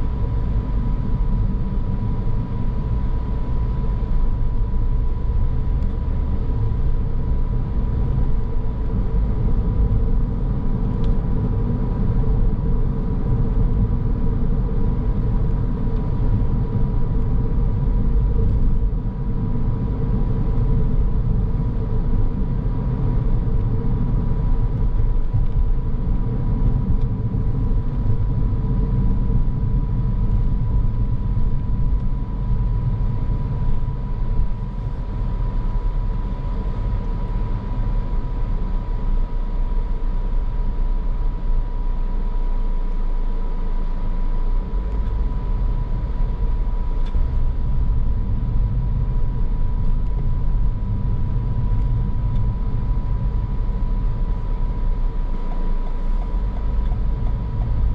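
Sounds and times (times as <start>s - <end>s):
car engine hum: 0.0s - 57.9s
road and tyre rumble: 0.0s - 57.9s.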